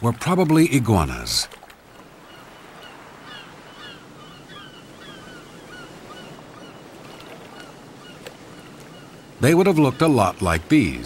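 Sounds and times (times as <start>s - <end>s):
surf: 0.0s - 11.0s.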